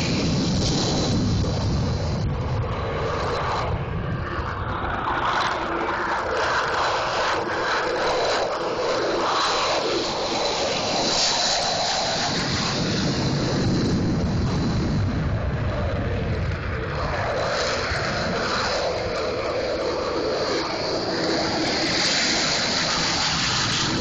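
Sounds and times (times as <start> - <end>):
jet engine rumble and hiss: 0.0 - 24.0.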